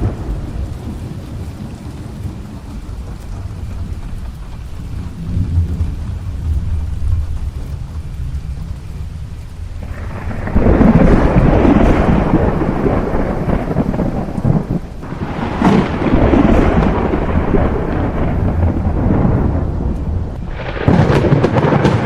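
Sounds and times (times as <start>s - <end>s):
rolling thunder: 0.0s - 22.0s
steady rain: 0.0s - 22.0s.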